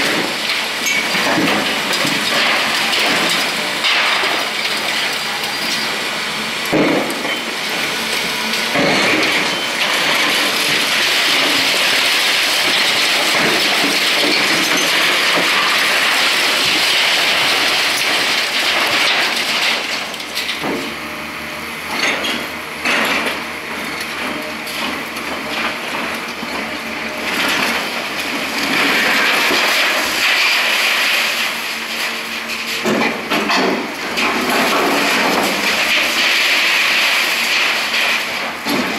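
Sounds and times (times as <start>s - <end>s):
concrete breaking and rubble falling: 0.0s - 21.0s, 21.9s - 38.9s.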